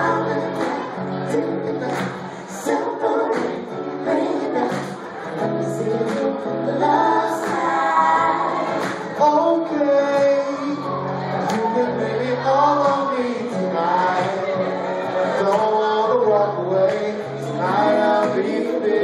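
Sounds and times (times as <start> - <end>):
people singing: 0.0 - 19.0.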